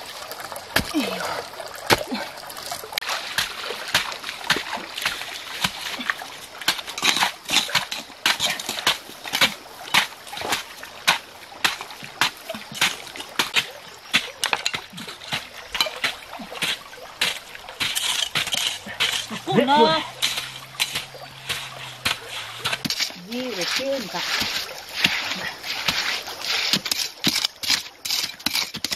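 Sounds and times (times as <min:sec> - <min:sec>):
mud and water splashing: 0:00.0 - 0:28.9.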